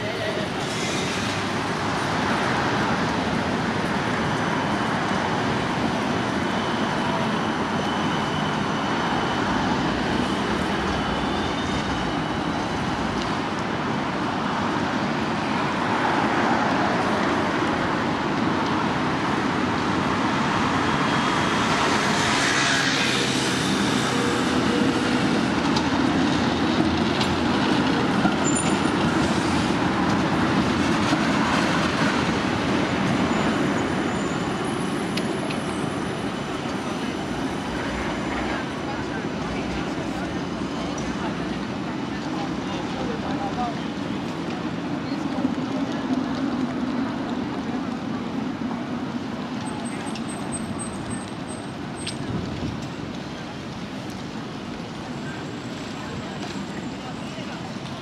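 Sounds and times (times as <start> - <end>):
cars and buses passing: 0.0 - 58.0
tram passing: 0.0 - 58.0.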